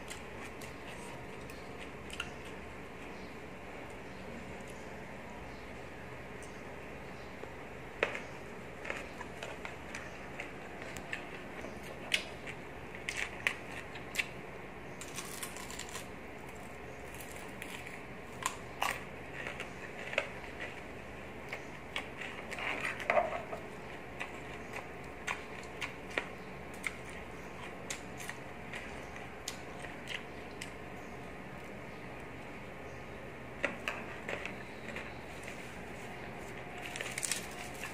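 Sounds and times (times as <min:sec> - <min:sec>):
chewing crunchy food: 0:00.0 - 0:03.2, 0:07.4 - 0:32.8, 0:33.5 - 0:37.9.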